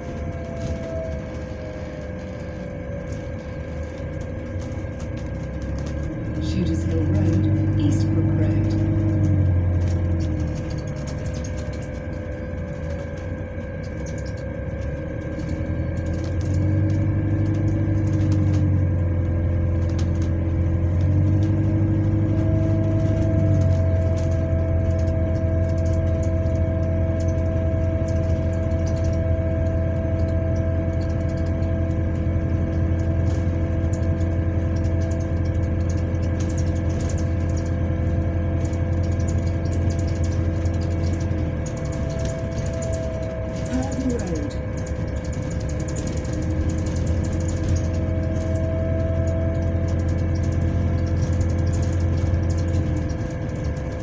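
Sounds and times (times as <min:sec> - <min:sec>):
bus engine droning: 0:00.0 - 0:54.0
fan whining: 0:00.0 - 0:54.0
higher whine: 0:00.0 - 0:54.0.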